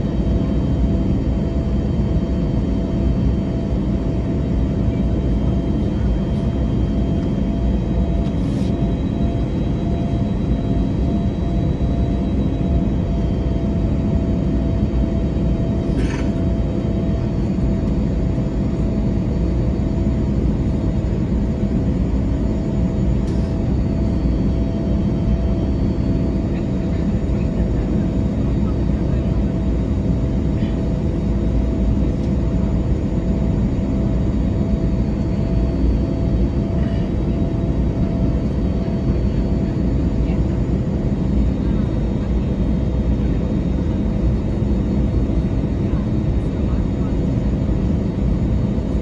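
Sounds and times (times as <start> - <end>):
airplane cabin rumble: 0.0 - 49.0.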